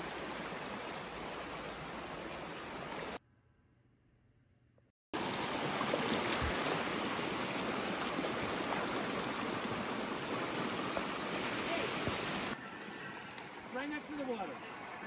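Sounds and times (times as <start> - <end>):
creek water rushing: 0.0 - 3.2, 5.2 - 15.0.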